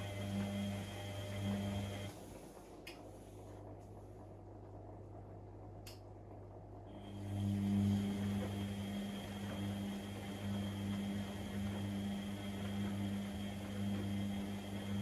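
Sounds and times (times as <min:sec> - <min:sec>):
washing machine running: 0:00.0 - 0:05.3, 0:06.4 - 0:15.0.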